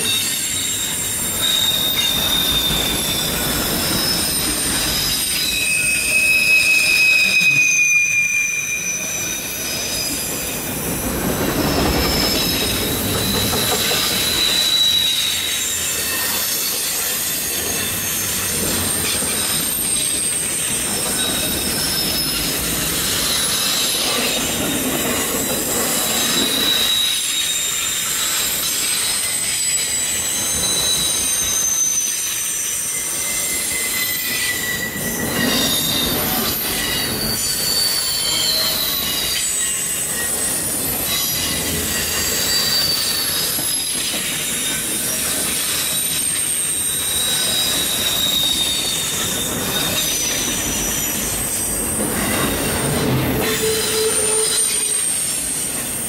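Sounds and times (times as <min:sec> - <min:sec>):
rumble and clatter of train cars: 0:00.0 - 0:56.0
train wheels squealing: 0:00.0 - 0:56.0.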